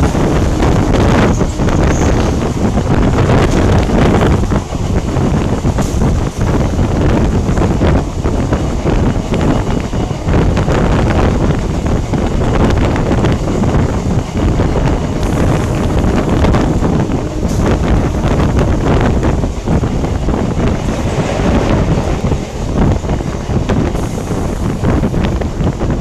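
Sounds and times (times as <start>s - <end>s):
train rumbling on rails: 0.0s - 26.0s
wind buffeting microphone: 0.0s - 26.0s.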